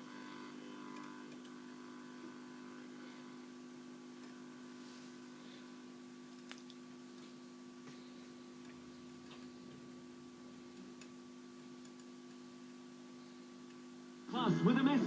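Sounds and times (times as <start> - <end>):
radio mains hum: 0.0 - 15.0.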